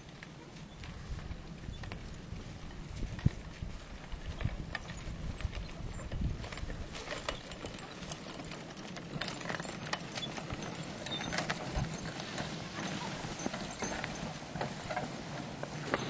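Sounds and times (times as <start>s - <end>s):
harness and cart clattering: 0.0s - 16.0s
horse hooves clip-clopping: 0.0s - 16.0s
tyre drag scraping ground: 0.0s - 16.0s.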